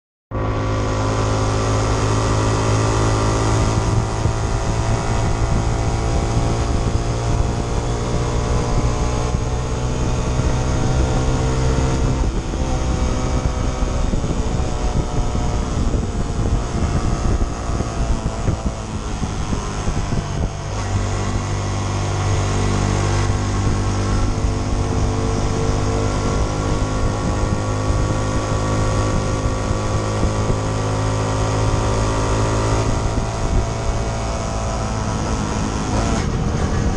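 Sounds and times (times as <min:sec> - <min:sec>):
motorcycle engine running: 0:00.3 - 0:36.9.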